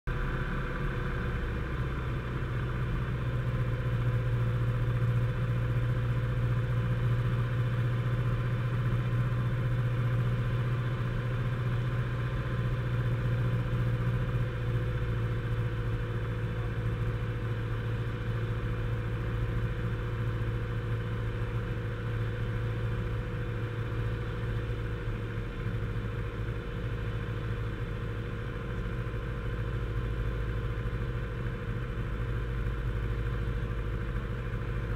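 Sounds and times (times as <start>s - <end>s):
airplane engine and propeller droning: 0.1s - 34.9s.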